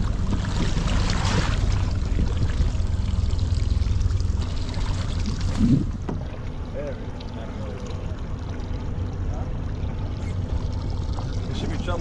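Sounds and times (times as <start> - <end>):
low rumble: 0.0 - 12.0
water splashing and trickling: 0.0 - 12.0.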